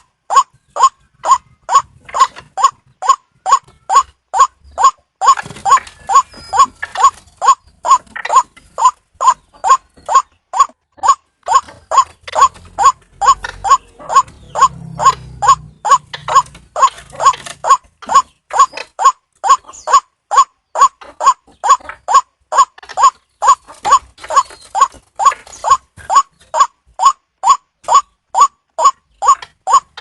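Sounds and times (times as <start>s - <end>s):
waterhen calling: 0.0s - 30.0s.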